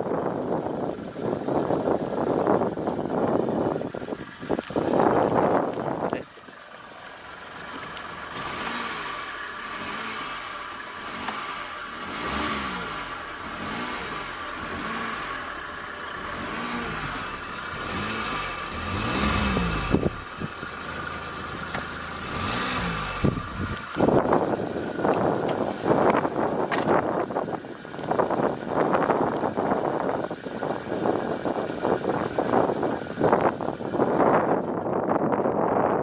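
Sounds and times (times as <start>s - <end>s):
car engine revving: 1.5s - 34.8s.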